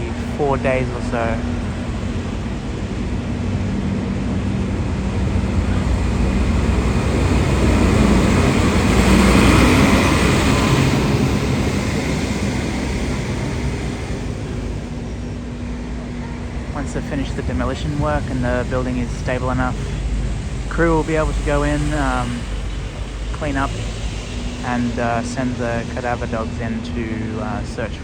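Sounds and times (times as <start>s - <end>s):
steady low hum: 0.0s - 28.0s
vehicle passing by: 0.0s - 28.0s.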